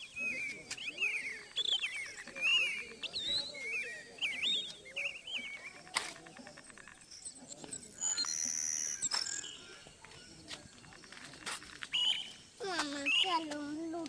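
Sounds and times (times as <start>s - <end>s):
wild birds calling: 0.0s - 7.2s, 7.9s - 13.5s
high steady bird trill: 0.0s - 13.8s.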